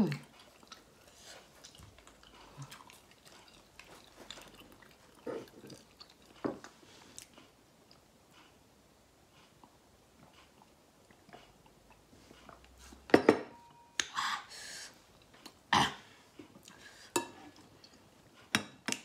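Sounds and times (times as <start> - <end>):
quiet chewing: 0.0 - 8.6, 9.3 - 13.0, 14.9 - 18.5.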